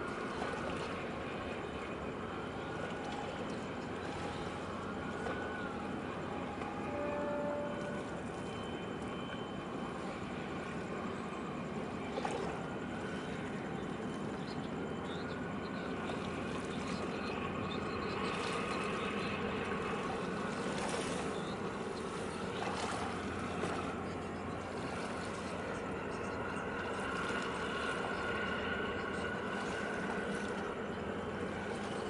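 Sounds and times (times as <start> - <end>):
ship engines rumbling: 0.0 - 32.0.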